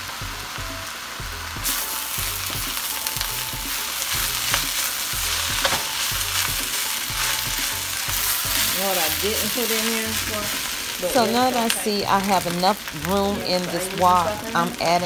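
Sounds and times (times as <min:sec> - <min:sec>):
rice sizzling in a wok: 0:00.0 - 0:15.0.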